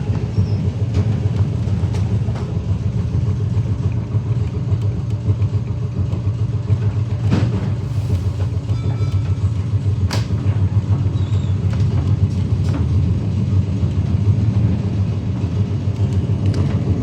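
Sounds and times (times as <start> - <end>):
electric tram rumbling: 0.0 - 17.0.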